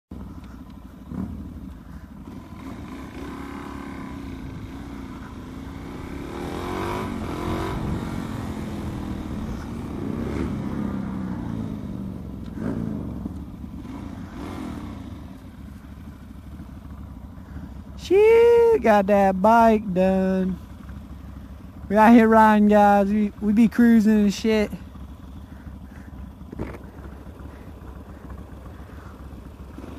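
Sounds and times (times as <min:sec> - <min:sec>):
motorcycle engine revving: 0:00.1 - 0:29.9.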